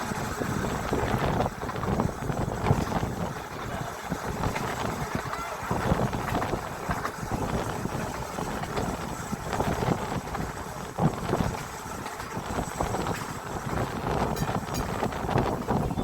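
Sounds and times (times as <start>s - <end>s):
tram wheels rumbling on rail: 0.0s - 16.0s.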